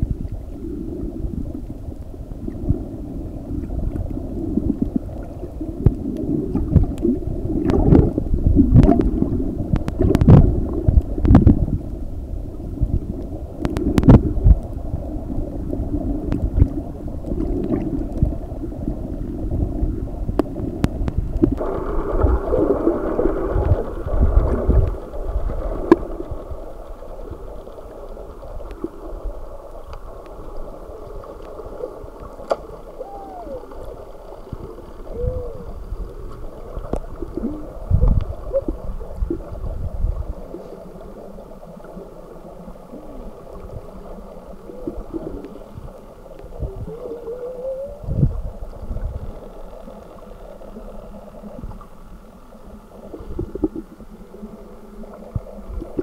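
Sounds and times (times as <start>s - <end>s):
underwater water rushing: 0.0s - 56.0s.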